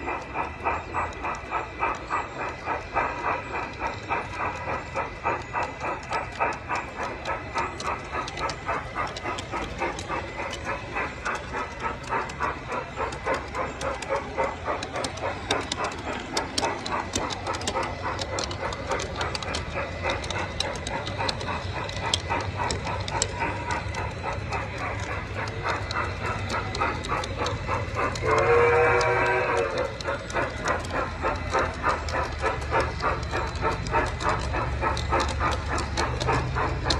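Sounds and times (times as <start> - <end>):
model steam locomotive chuffing: 0.0 - 36.9
wheels clicking over rail joints: 0.0 - 36.9.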